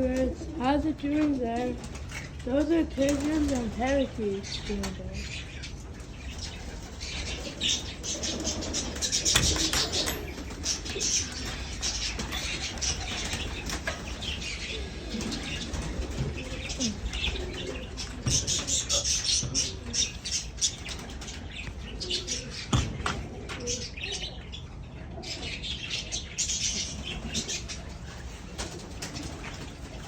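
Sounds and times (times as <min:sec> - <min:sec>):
parakeets chirping and chattering: 0:00.0 - 0:30.0
pigeons cooing: 0:00.0 - 0:30.0.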